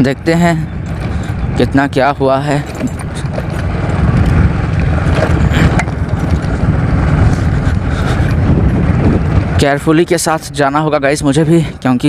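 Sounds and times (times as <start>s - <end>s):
motorcycle engine rumble: 0.0s - 12.0s
road and wind noise: 0.0s - 12.0s.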